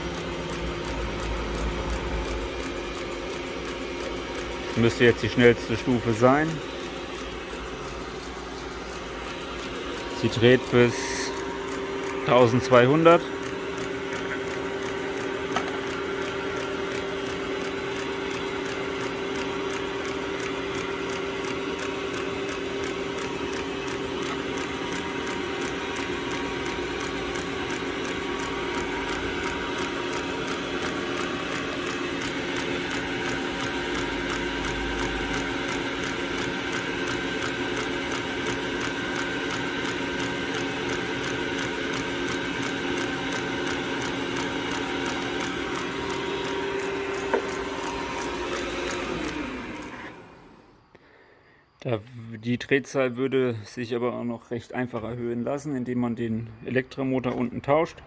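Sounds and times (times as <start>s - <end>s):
fast even ticking: 0.0s - 49.5s
lathe motor hum: 0.0s - 50.8s.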